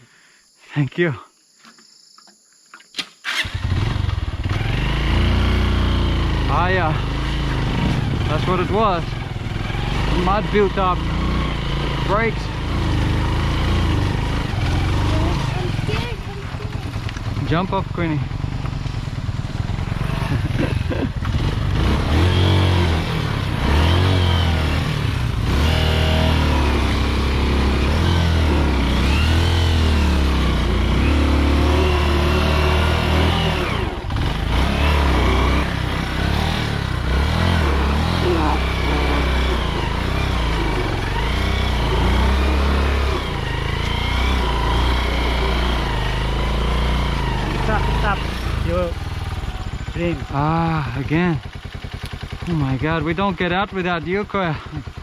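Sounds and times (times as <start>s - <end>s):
motorcycle engine revving: 3.2s - 55.0s.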